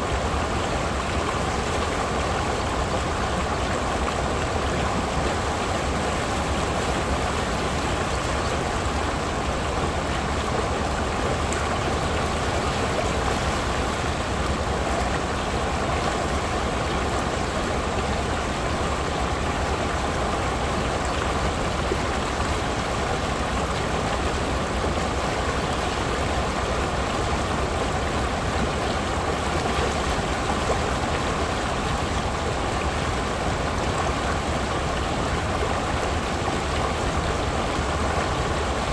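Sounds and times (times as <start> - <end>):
creek water rushing over rocks: 0.0 - 38.9.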